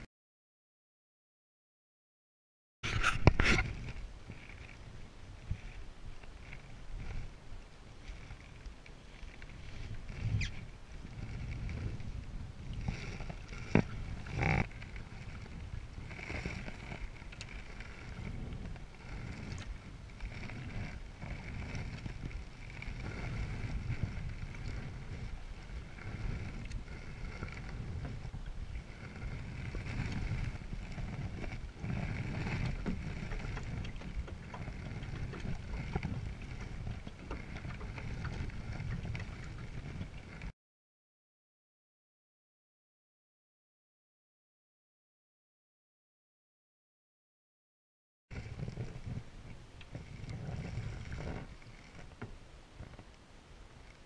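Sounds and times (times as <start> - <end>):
canoe paddle strokes in water: 2.8 - 40.5, 48.3 - 54.0
wind rumble on microphone: 2.8 - 40.5, 48.3 - 54.0.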